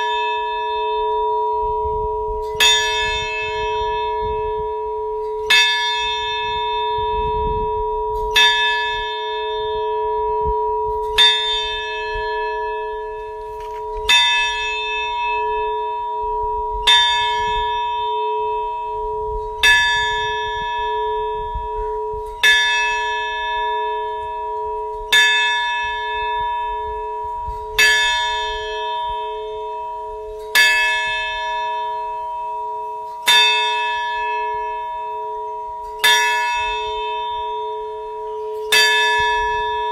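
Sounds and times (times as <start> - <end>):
large bell tolling: 0.0 - 39.9.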